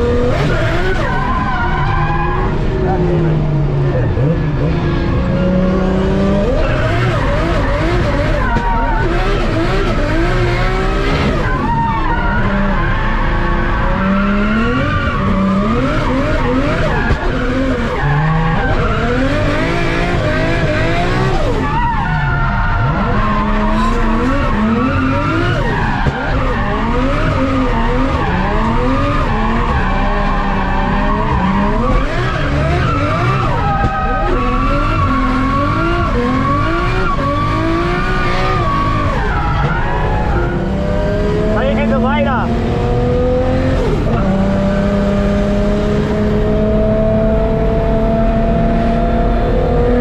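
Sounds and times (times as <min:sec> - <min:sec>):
car engine revving: 0:00.0 - 0:50.0
tyres skidding: 0:00.0 - 0:50.0.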